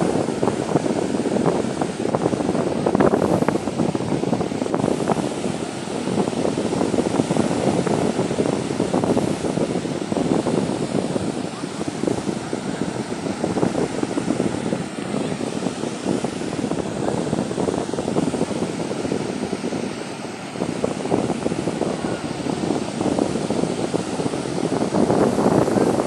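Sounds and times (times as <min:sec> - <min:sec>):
waves breaking on a beach: 0:00.0 - 0:26.0.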